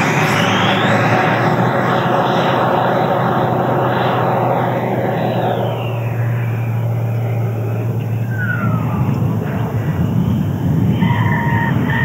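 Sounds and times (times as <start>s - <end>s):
electric ducted fan whine: 0.0s - 12.0s.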